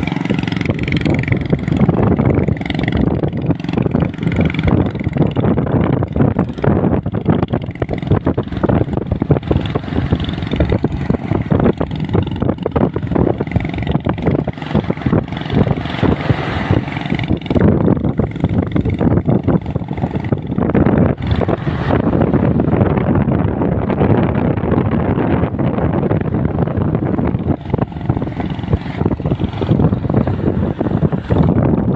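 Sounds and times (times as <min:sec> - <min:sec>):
motorboat engine running: 0:00.0 - 0:31.9
wind buffeting microphone: 0:00.0 - 0:31.9.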